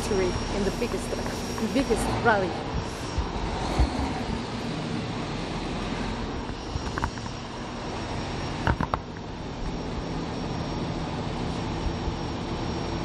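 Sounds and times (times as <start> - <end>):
diesel trucks running: 0.0 - 13.0.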